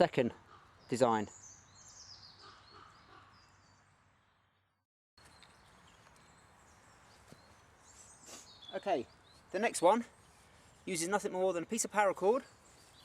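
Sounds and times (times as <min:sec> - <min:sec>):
faint outdoor background hiss: 0:00.0 - 0:13.0.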